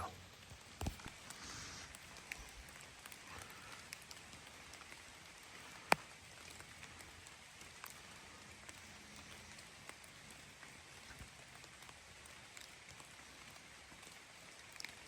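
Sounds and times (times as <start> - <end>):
rain hiss: 0.0 - 15.0
raindrop ticks: 0.0 - 15.0.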